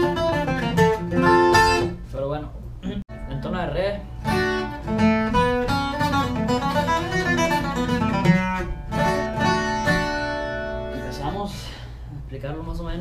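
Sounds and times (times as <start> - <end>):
acoustic guitar picking: 0.0 - 2.1, 3.1 - 11.5.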